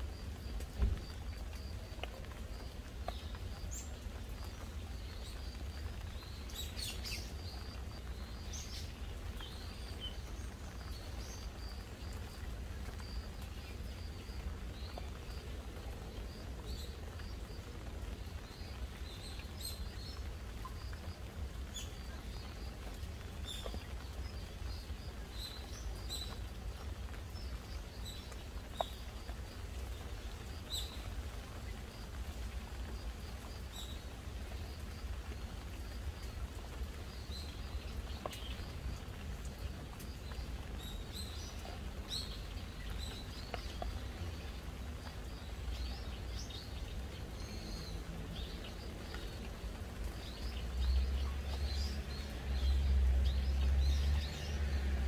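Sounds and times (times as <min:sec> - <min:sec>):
gentle rain: 0:00.0 - 0:55.0
raindrop ticks: 0:00.0 - 0:55.0
small birds chirping: 0:00.0 - 0:55.0.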